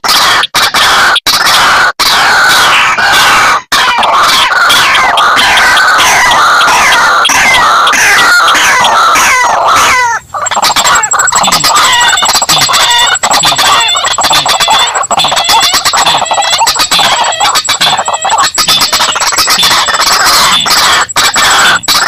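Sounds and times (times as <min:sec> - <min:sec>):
bird calls played back loud: 0:00.0 - 0:22.0.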